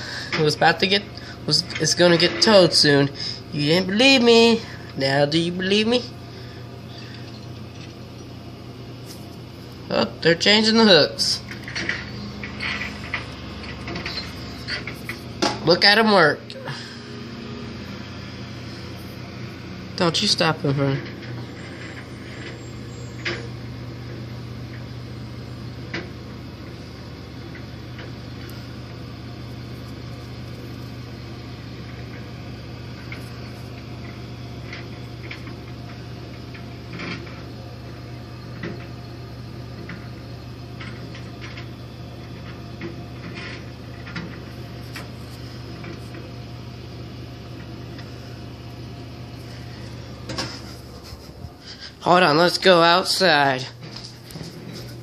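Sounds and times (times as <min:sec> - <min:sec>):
truck engine humming: 0:00.0 - 0:55.0.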